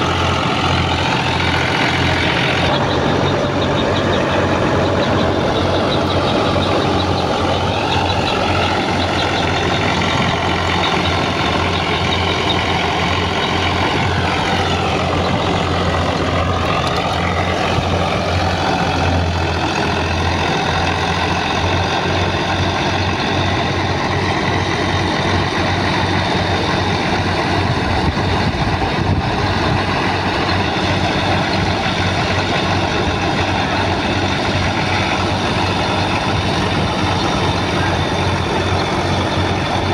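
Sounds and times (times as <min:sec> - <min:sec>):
thresher drum whirring: 0:00.0 - 0:39.9
tractor diesel engine running: 0:00.0 - 0:39.9.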